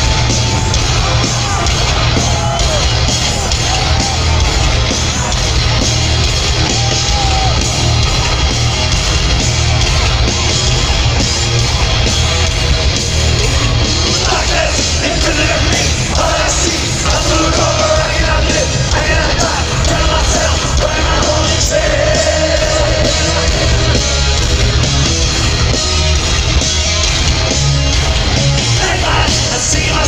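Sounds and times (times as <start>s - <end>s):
bass guitar: 0.0s - 30.0s
distorted electric guitars: 0.0s - 30.0s
drums: 0.0s - 30.0s.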